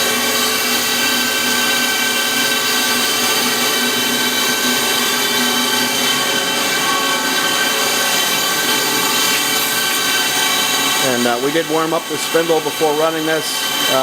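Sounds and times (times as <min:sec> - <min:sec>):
machining center spindle whine: 0:00.0 - 0:14.0.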